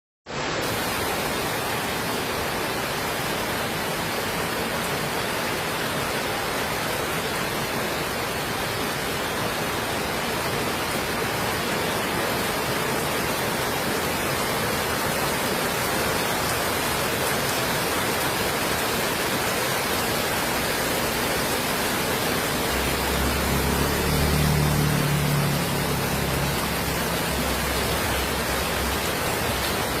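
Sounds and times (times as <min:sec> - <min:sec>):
heavy rain falling: 0:00.3 - 0:30.0.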